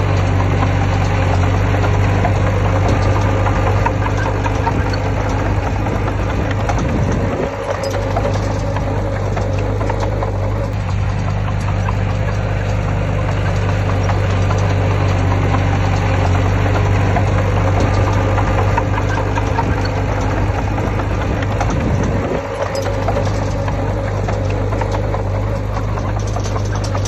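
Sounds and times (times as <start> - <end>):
heavy diesel machinery running: 0.0 - 27.0.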